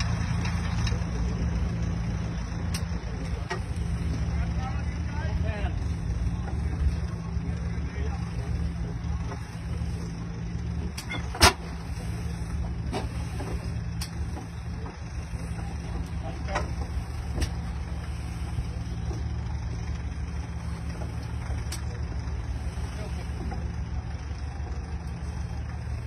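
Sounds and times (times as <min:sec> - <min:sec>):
engine bangs: 0:00.0 - 0:26.0
tractor engine droning: 0:00.0 - 0:26.0.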